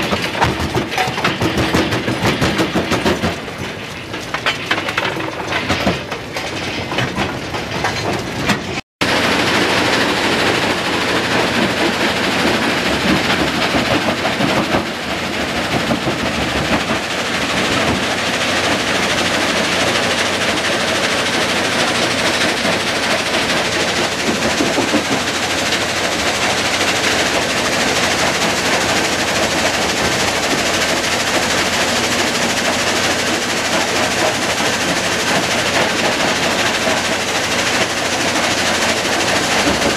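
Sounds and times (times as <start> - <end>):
crushed rock rattling on conveyors: 0.0 - 39.9
rock clattering in crusher: 0.0 - 39.9.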